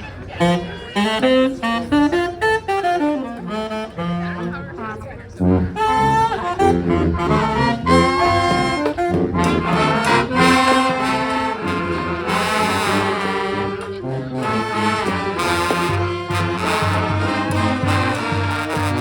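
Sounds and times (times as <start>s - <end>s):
brass band playing: 0.0s - 19.0s
wavering high horn line: 0.4s - 19.0s.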